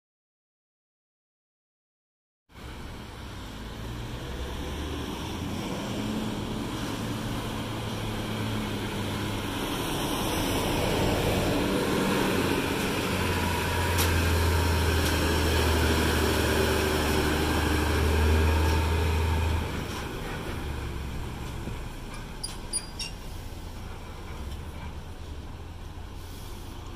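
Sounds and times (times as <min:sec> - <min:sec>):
diesel truck engine drone: 0:02.6 - 0:26.9.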